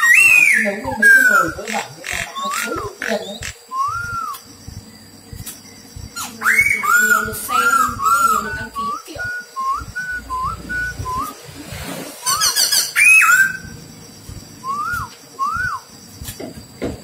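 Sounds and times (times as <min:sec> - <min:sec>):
bird whistling song: 0:00.0 - 0:17.0.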